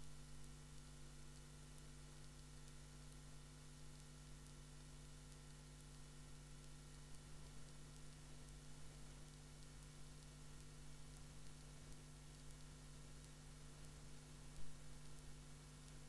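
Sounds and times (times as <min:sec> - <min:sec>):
faint hiss: 0:00.0 - 0:16.0
low steady hum: 0:00.0 - 0:16.0.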